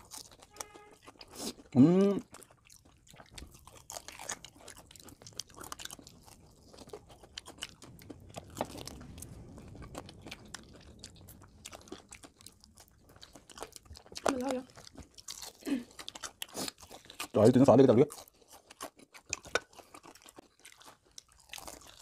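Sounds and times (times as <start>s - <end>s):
crunching and chewing fried chicken: 0.0s - 22.0s.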